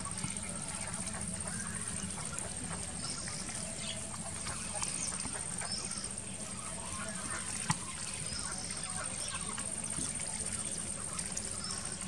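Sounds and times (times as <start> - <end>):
ducks splashing in water: 0.0 - 12.0.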